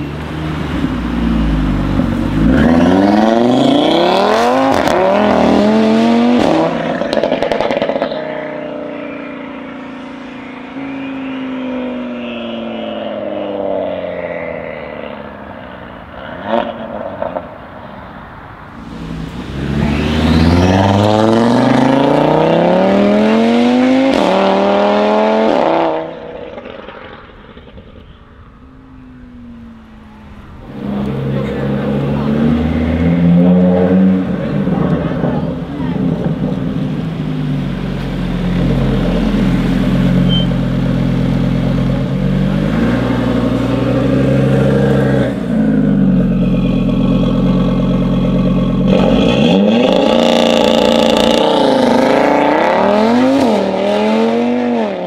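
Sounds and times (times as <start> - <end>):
car engine accelerating hard: 0.0 - 17.6, 18.8 - 55.0.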